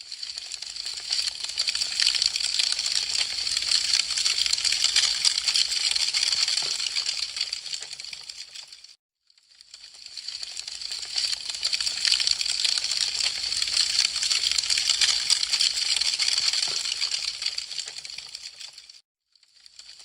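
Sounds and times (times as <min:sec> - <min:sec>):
wood fire crackling: 0:00.1 - 0:08.9, 0:09.7 - 0:19.0.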